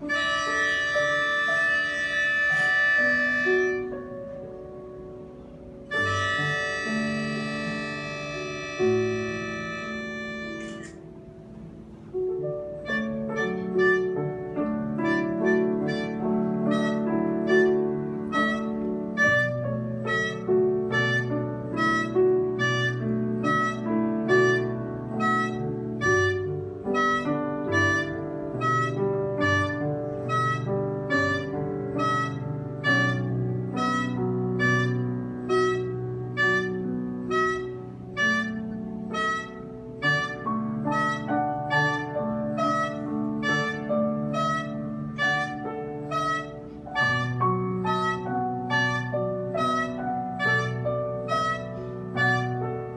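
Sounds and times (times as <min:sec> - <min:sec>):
live instrumental music: 0:00.0 - 0:11.6, 0:12.2 - 0:52.9.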